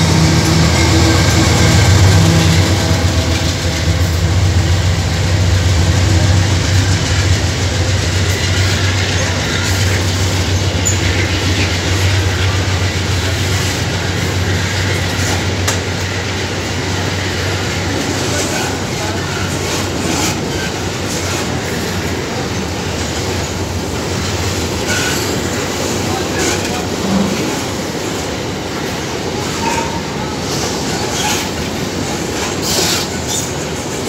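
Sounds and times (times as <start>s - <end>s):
diesel locomotive engine hum: 0.0s - 34.0s
rumble of train wheels on rail: 0.0s - 34.0s.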